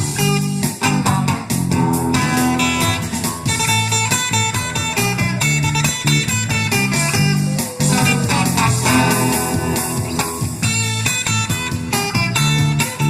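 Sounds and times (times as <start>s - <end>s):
bass line: 0.0s - 13.0s
plucked guitar: 0.0s - 13.0s
steady drum beat: 0.0s - 13.0s.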